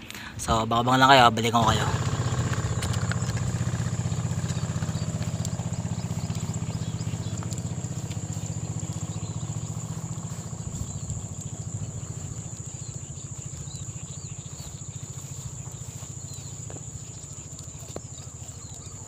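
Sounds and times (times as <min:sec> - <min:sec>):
high insect drone with chirps: 0:01.0 - 0:19.0
small engine throbbing: 0:01.0 - 0:19.0.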